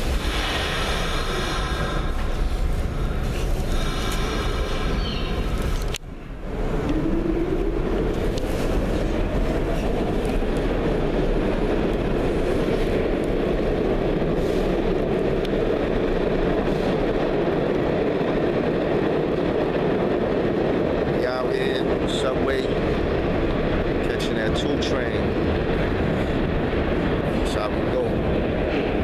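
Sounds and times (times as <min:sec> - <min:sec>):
subway train rumbling in tunnel: 0:00.0 - 0:29.0.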